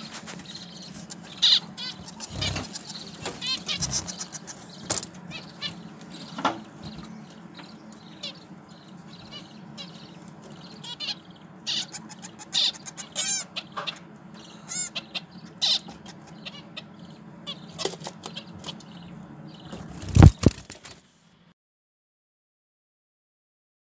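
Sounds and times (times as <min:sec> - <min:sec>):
nestling birds begging chirps: 0:00.0 - 0:21.0
low steady hum: 0:00.0 - 0:21.5.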